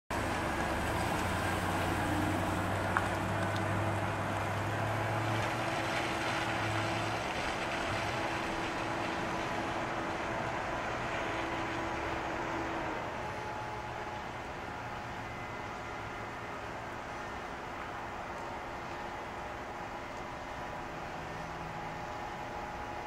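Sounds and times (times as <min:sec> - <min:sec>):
truck engine driving off: 0:00.1 - 0:23.0.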